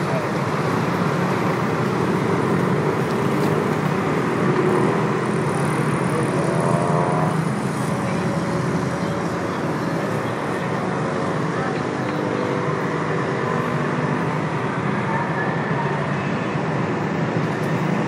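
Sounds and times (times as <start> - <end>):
dense road traffic: 0.0 - 18.0.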